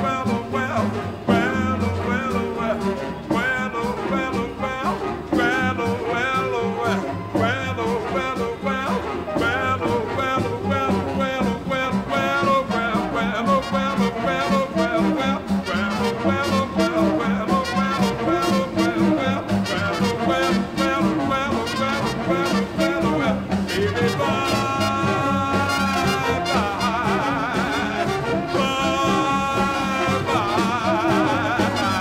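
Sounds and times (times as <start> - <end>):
swing jazz music: 0.0 - 32.0.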